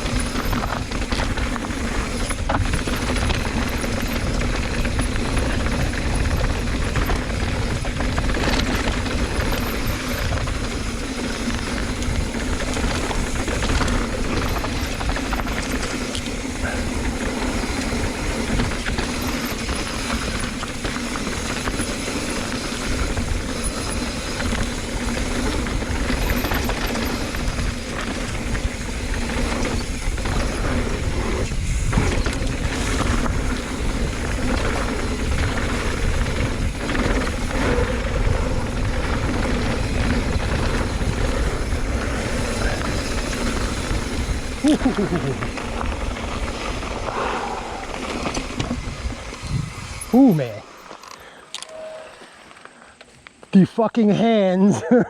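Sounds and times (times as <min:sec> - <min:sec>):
wind rushing over microphone: 0:00.0 - 0:50.8
bike tyres rolling over dirt: 0:00.0 - 0:54.4.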